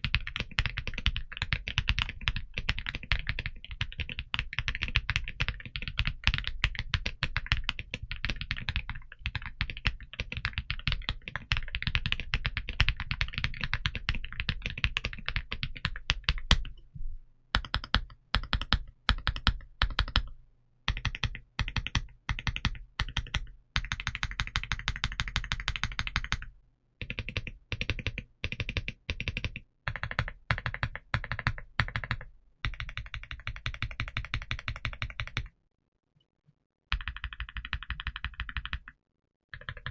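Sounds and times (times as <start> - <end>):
mechanical keyboard typing: 0.0 - 16.7, 17.6 - 20.3, 20.9 - 35.5, 36.9 - 38.9, 39.6 - 39.9.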